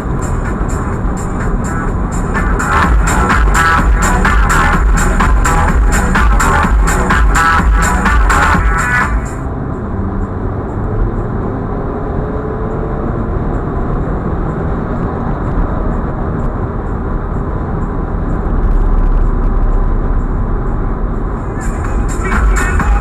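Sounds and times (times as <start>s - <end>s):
car road and wind noise: 0.0s - 23.0s.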